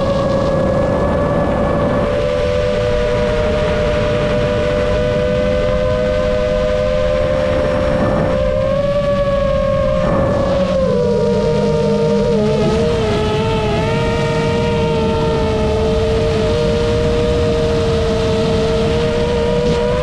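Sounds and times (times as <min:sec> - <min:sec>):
drone motors whining: 0:00.0 - 0:20.0
rush of wind: 0:00.0 - 0:20.0.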